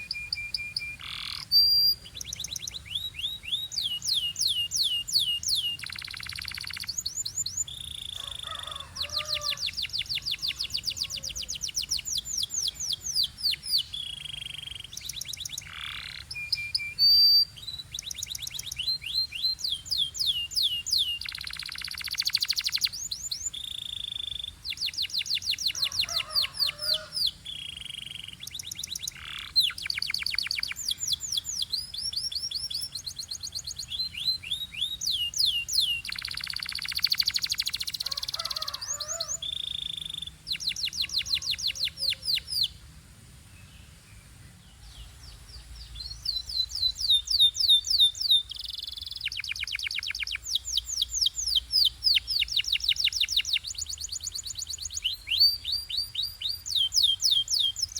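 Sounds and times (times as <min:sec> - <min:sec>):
canary singing: 0:00.0 - 0:42.8, 0:45.3 - 0:57.9.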